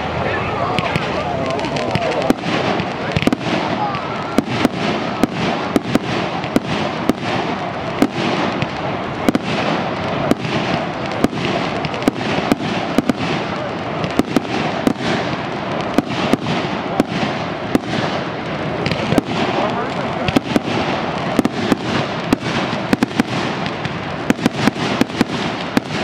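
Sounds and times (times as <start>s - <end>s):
continuous din: 0.0s - 26.0s
fireworks bangs and pops: 0.0s - 26.0s.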